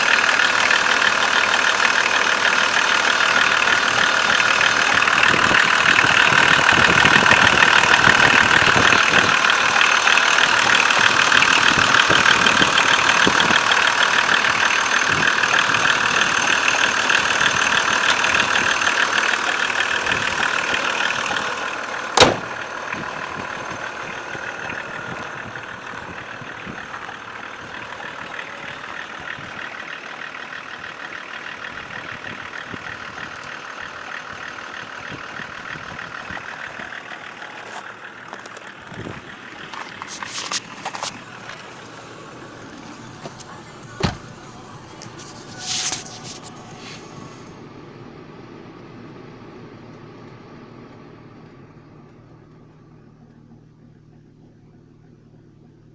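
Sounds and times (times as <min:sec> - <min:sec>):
diesel engine idling with knock: 0:00.0 - 0:55.9.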